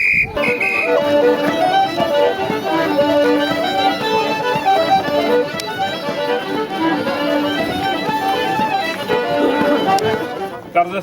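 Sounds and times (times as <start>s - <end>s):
fiddle playing quick melody: 0.2s - 11.0s.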